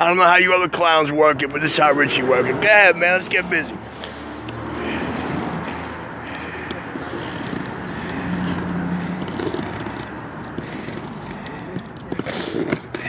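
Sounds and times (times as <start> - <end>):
outdoor traffic noise: 0.0 - 13.0.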